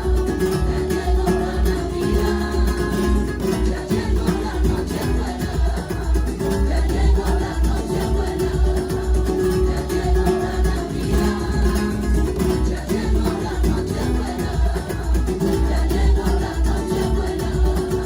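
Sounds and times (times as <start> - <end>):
flamenco guitar music: 0.0 - 18.0.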